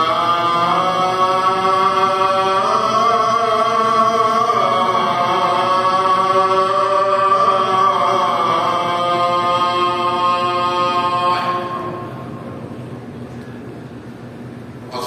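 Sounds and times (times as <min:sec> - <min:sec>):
devotional chanting: 0:00.0 - 0:12.4.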